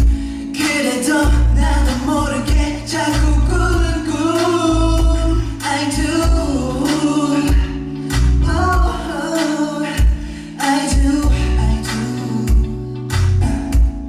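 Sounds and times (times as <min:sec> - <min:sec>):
man singing: 0:00.0 - 0:13.2
pop band backing track: 0:00.0 - 0:14.0.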